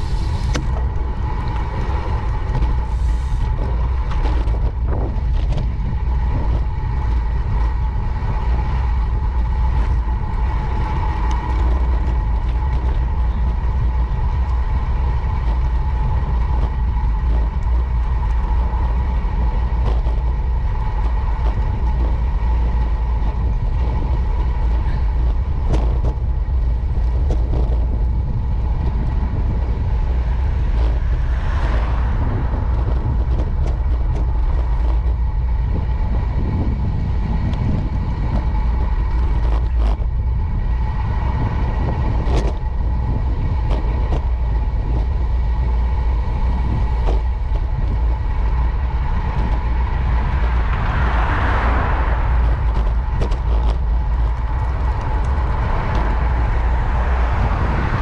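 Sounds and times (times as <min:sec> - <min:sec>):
thin steady whine: 0:00.0 - 0:58.0
wind and road rumble: 0:00.0 - 0:58.0.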